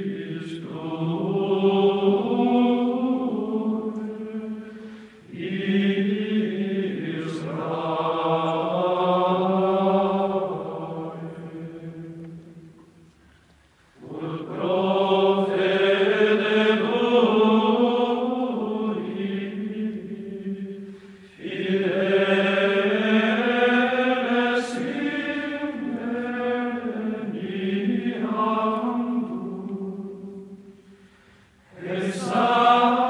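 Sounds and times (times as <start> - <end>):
slow vocal chanting: 0.0 - 33.0.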